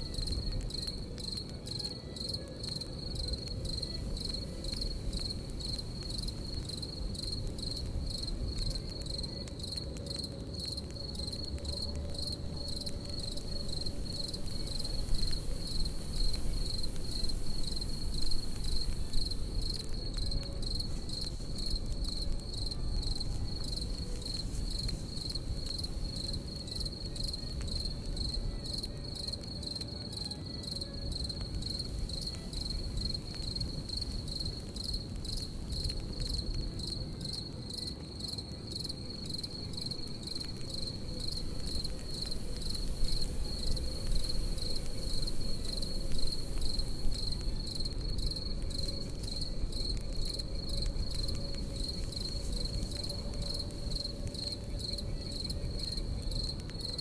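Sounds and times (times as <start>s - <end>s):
campfire rushing and crackling: 0.0s - 57.0s
crickets chirping: 0.0s - 57.0s.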